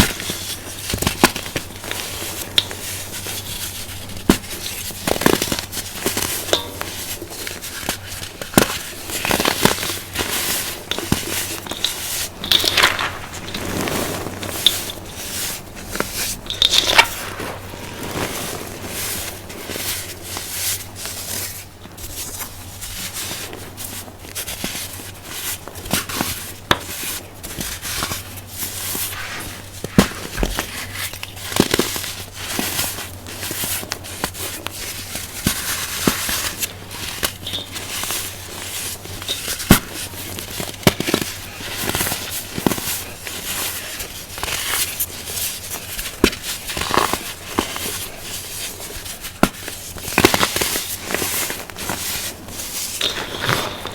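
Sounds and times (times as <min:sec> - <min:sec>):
baking soda crunching by hand: 0:00.0 - 0:21.6, 0:24.7 - 0:53.9.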